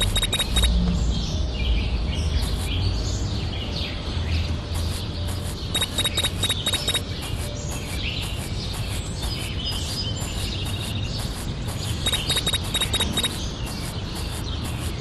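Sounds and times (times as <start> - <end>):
birds chirping in trills: 0.0 - 15.0.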